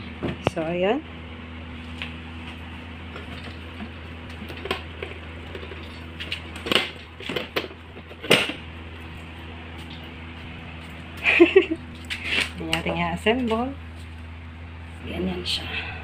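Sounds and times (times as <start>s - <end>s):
massage vibrator humming: 0.0s - 16.0s.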